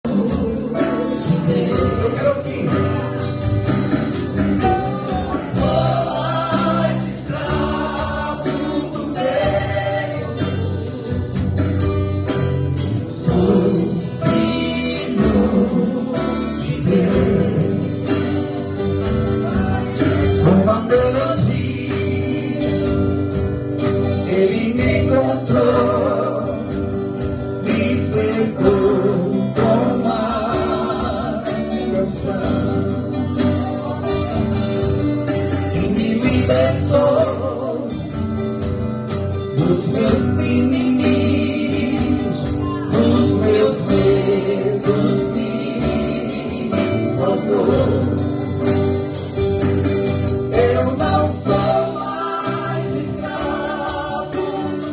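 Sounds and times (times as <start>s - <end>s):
band with steady beat: 0.0s - 54.9s
vocal ensemble singing: 0.0s - 54.9s.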